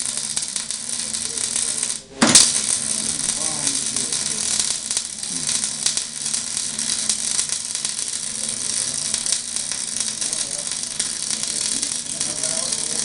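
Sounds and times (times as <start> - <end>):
welding arc crackling: 0.0 - 13.0.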